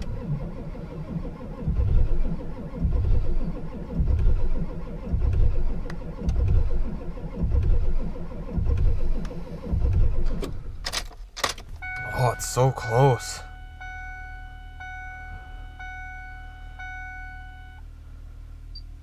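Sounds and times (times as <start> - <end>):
diesel engine cranking: 0.0 - 17.8.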